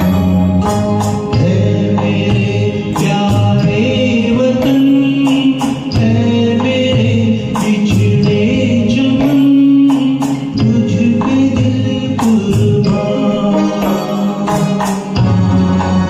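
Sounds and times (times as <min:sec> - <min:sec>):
song with singing: 0:00.0 - 0:16.0.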